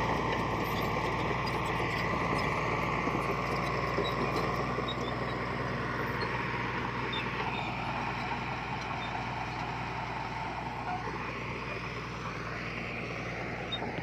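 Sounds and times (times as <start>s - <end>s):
heavy diesel engine under load: 0.0s - 14.0s.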